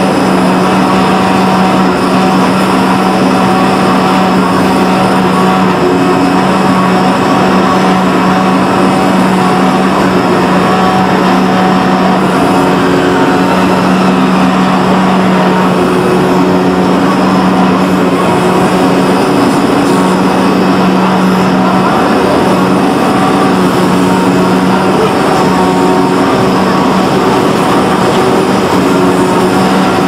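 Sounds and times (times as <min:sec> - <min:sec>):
cutting machine humming: 0:00.0 - 0:30.0.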